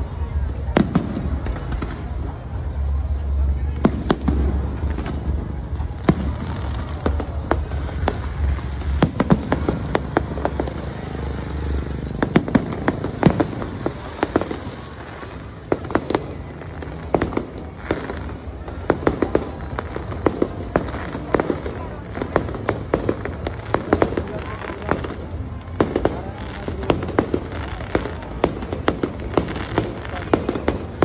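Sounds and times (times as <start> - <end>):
fireworks bangs and crackling pops: 0.0 - 31.0.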